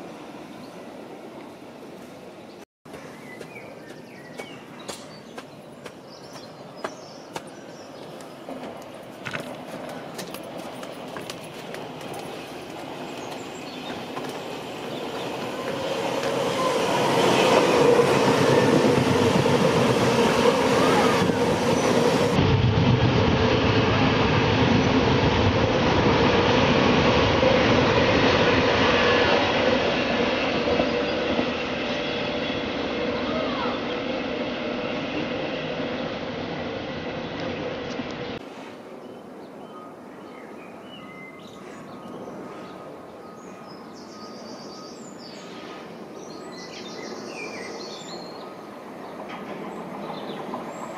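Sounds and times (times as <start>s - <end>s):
train whine: 0.0s - 2.6s, 6.5s - 40.1s, 41.3s - 50.9s
train passing: 0.0s - 50.9s.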